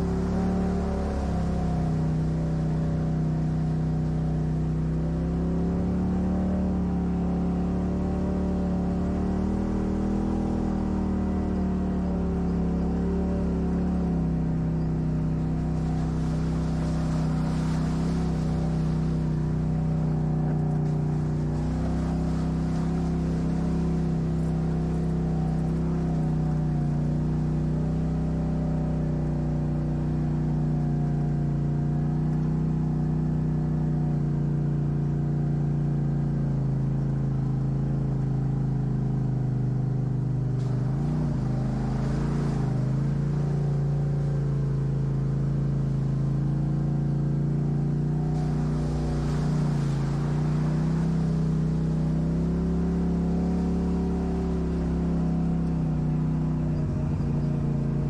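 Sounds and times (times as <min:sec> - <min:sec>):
vehicle engine running at low revs: 0:00.0 - 0:58.0.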